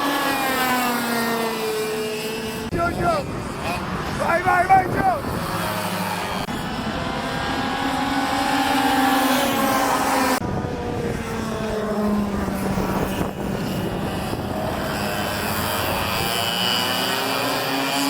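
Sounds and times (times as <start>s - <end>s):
go-kart engines revving: 0.0s - 18.0s.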